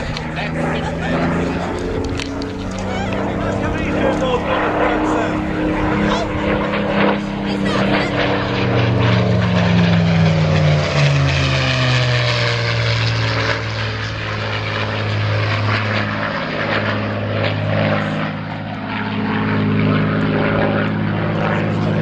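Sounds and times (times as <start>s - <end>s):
propeller aircraft engine droning: 0.0s - 22.0s.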